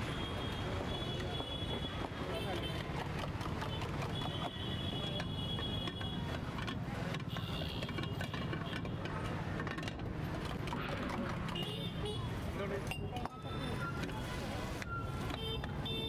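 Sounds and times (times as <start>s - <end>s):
busy street rumble: 0.0s - 16.0s.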